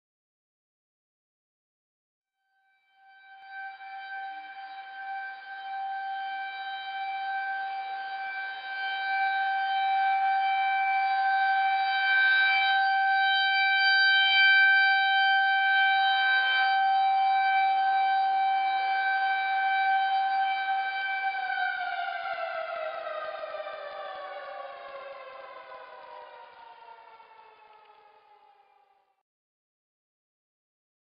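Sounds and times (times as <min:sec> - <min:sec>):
warning siren wailing: 0:02.6 - 0:29.1.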